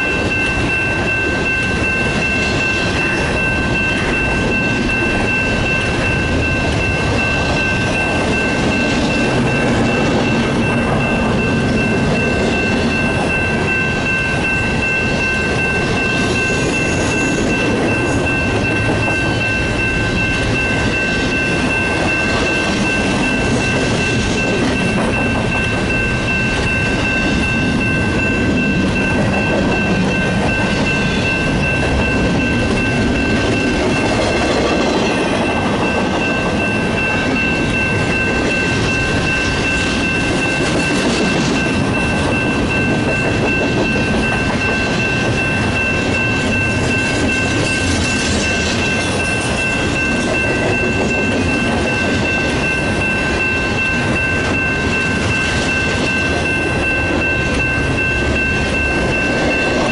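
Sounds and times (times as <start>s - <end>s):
steady high-pitched tones: 0.0s - 59.9s
train cars rolling past: 0.0s - 59.9s.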